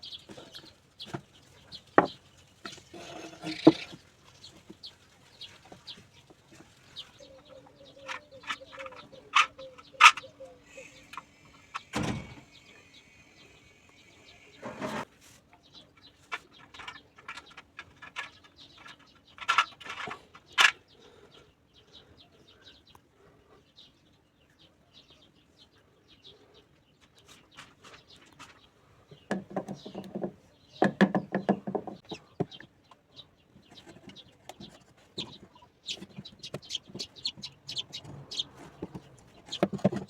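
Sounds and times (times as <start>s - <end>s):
birds calling: 0.0s - 40.0s.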